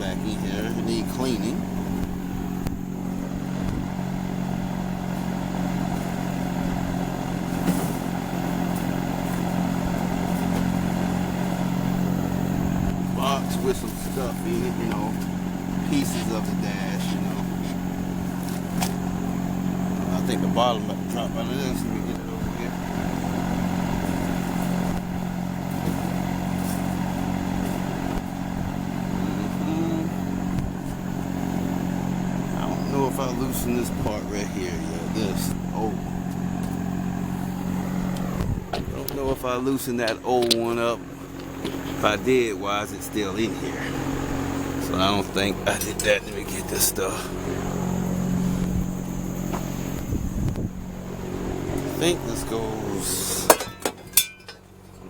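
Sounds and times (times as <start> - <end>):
motor hum: 0.0 - 55.0.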